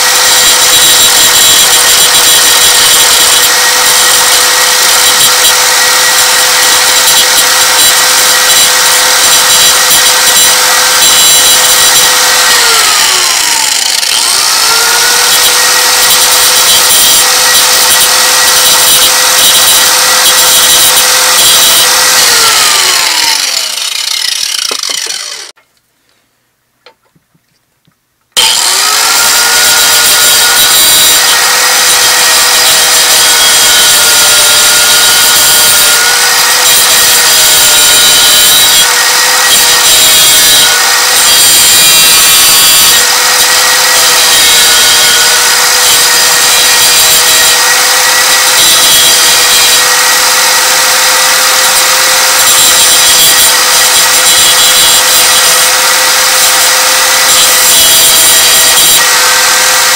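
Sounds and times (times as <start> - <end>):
angle grinder grinding steel: 0.0 - 25.6, 28.4 - 59.9.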